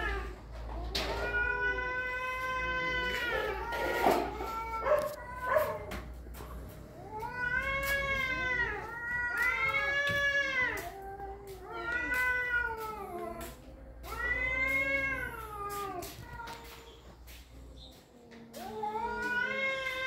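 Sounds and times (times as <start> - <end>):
cats yowling: 0.0 - 6.1, 7.0 - 16.8, 18.5 - 20.0.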